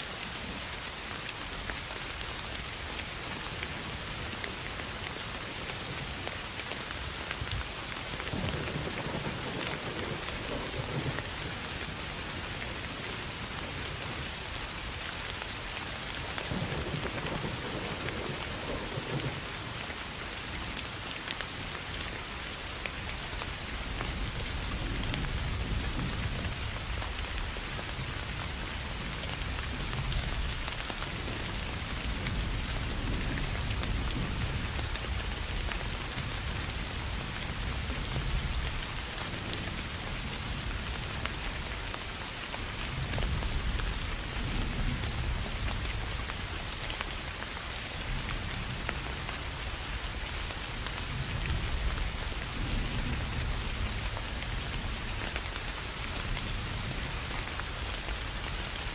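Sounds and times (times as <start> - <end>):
soft rain on grass: 0.0 - 58.9.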